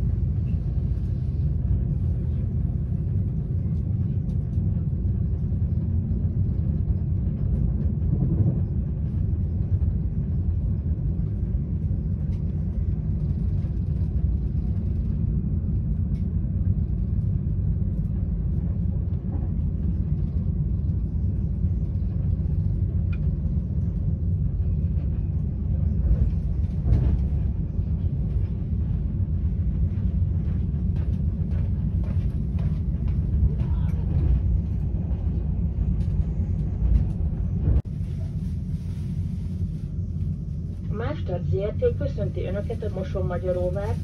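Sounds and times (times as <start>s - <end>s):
train wheels rumbling on track: 0.0s - 44.0s.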